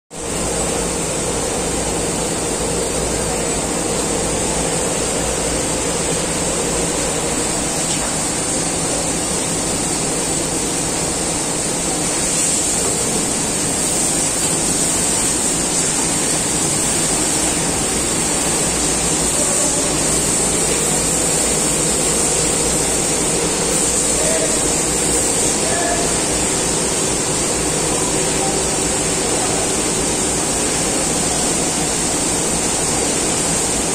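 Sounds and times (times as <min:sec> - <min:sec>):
machine whirring hiss: 0:00.2 - 0:33.9.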